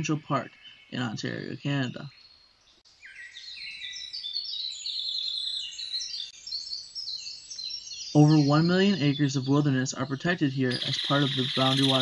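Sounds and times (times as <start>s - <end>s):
many birds chirping: 0.0s - 2.3s, 3.0s - 12.0s.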